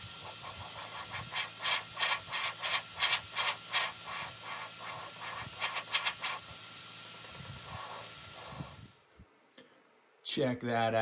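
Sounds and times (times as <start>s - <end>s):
airbrush hissing in short bursts: 0.0s - 9.0s.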